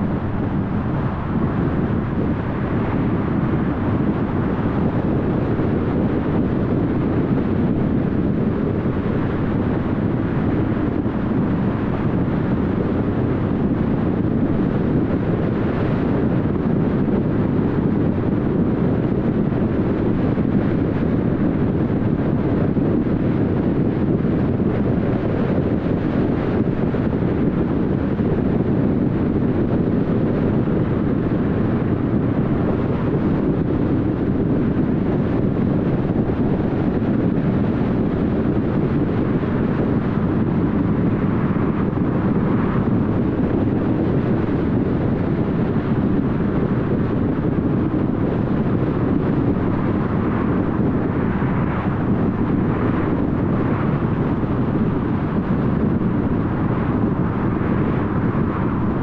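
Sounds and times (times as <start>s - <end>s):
road and tyre noise: 0.0s - 59.0s.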